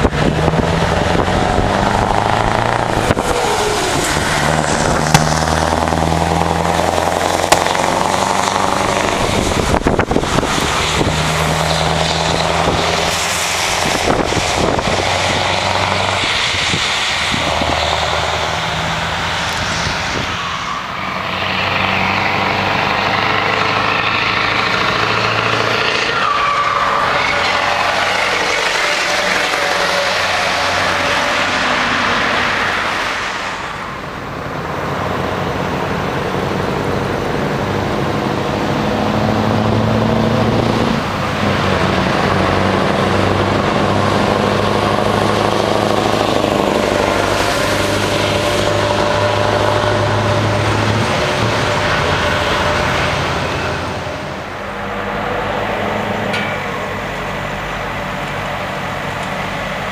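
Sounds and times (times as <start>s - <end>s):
truck engines accelerating: 0.0s - 59.9s
tyre noise from traffic: 0.0s - 59.9s.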